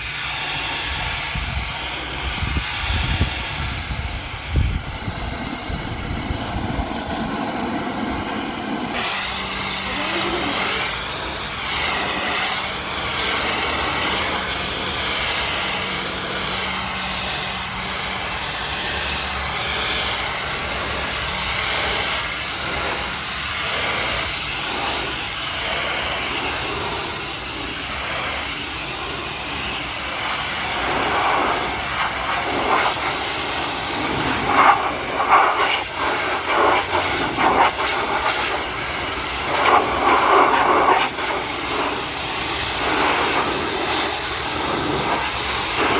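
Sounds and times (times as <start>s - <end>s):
water jet spraying: 0.0s - 45.9s.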